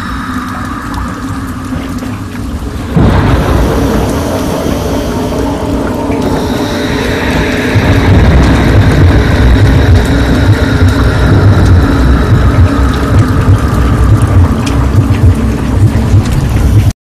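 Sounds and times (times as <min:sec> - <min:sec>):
rough low rumble: 0:00.0 - 0:17.0.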